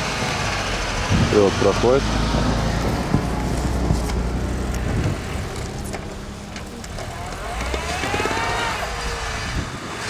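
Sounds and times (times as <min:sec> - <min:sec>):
off-road vehicle engine driving: 0:00.0 - 0:10.0.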